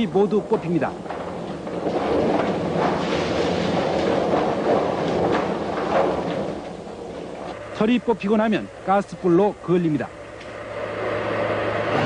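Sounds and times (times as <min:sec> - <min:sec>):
dehairing machine clattering: 0:00.0 - 0:10.0.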